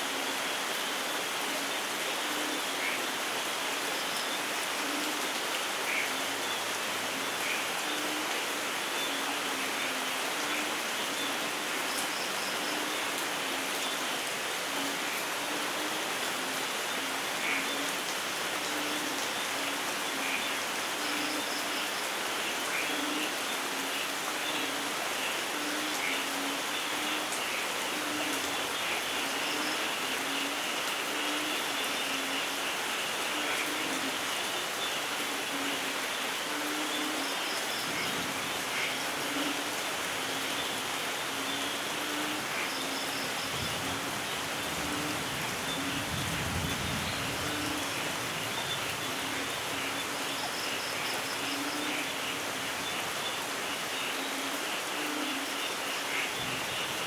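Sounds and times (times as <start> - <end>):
steady rainfall: 0.0 - 57.0
frogs calling: 0.7 - 57.0.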